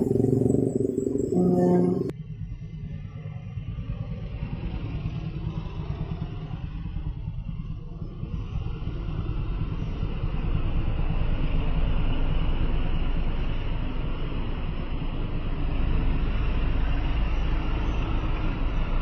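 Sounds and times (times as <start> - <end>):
motorcycle passing: 0.0 - 19.0
trucks rolling past: 0.0 - 19.0.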